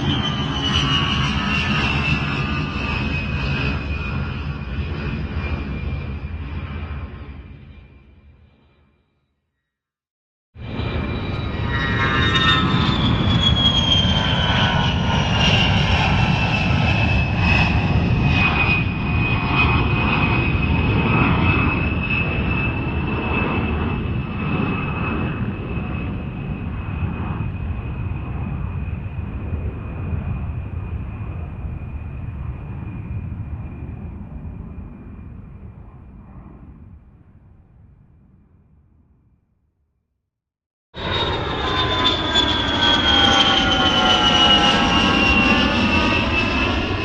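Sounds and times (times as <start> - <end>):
airplane flying past: 0.0 - 9.1, 10.6 - 38.8, 41.0 - 47.0.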